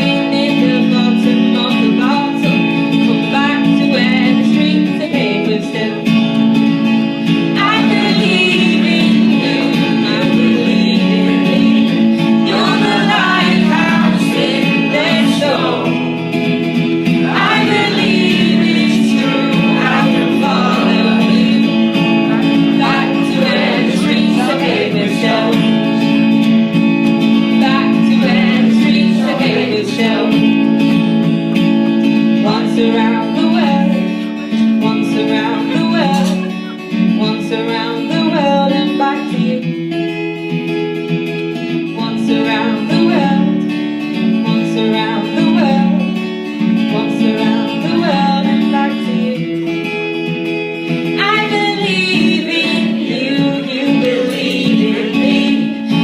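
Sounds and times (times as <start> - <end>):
woman singing: 0.0 - 6.4, 7.3 - 26.4, 27.3 - 31.0, 32.1 - 40.0, 41.7 - 49.6, 51.1 - 56.0
guitar strumming chords: 0.0 - 56.0.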